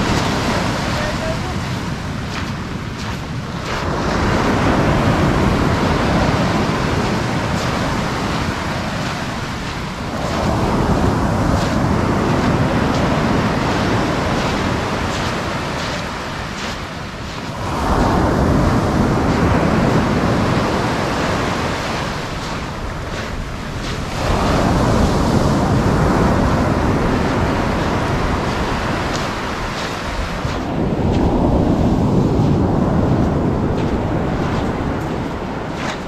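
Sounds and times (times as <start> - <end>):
surf washing up a beach: 0.0 - 36.0.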